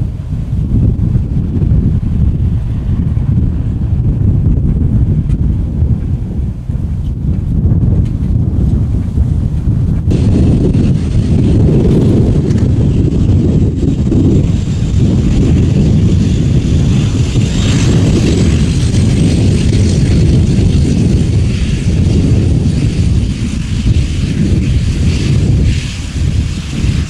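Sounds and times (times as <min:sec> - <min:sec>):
turboprop engines whining: 0:00.0 - 0:27.0
wind buffeting on microphone: 0:00.0 - 0:27.0.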